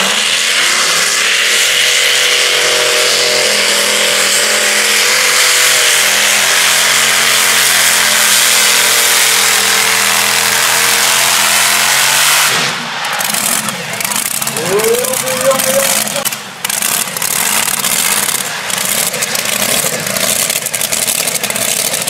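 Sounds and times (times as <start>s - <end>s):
tractor engine at full throttle: 0.0s - 22.0s.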